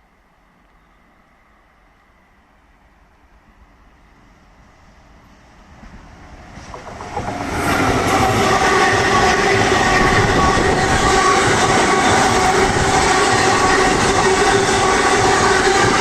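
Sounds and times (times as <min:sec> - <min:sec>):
train passing: 0:00.4 - 0:16.0.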